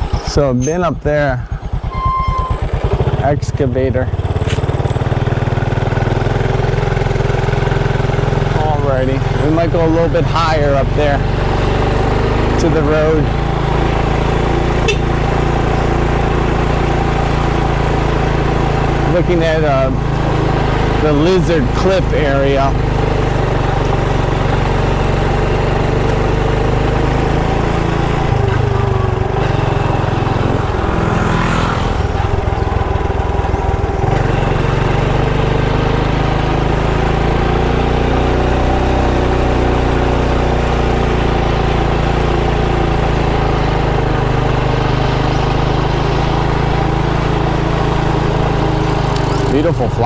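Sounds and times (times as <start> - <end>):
motorbike engine running: 0.0 - 50.0.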